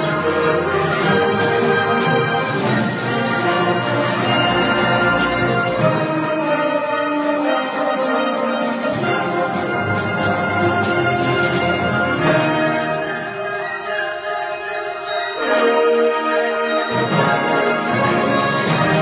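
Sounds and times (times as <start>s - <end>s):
concert band playing: 0.0s - 19.0s.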